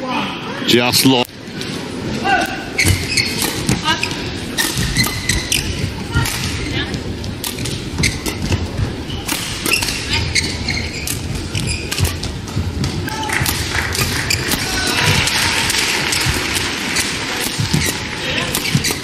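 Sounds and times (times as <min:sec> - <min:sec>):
arena crowd noise: 0:00.0 - 0:19.0
rackets hitting shuttlecock: 0:02.4 - 0:19.0
footsteps on court: 0:02.8 - 0:19.0.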